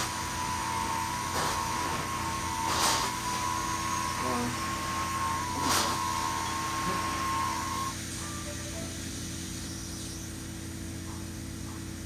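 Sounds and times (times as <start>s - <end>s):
low hum and hiss: 0.0s - 12.0s
machine high whine: 0.0s - 12.0s.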